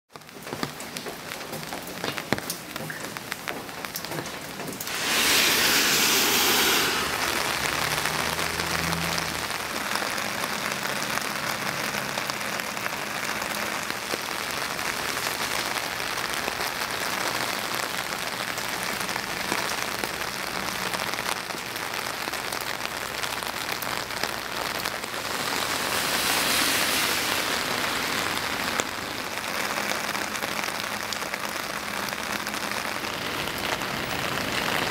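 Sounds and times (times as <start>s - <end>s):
light rain falling: 0.1s - 34.9s.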